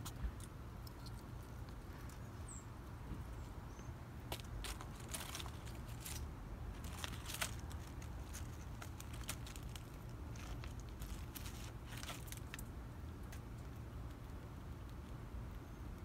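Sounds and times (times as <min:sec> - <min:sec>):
squirrel gnawing and crunching food: 0:00.0 - 0:16.0.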